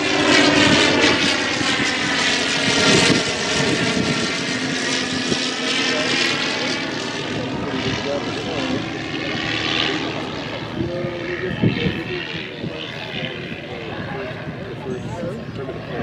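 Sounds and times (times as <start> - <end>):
propeller plane droning overhead: 0.0 - 16.0.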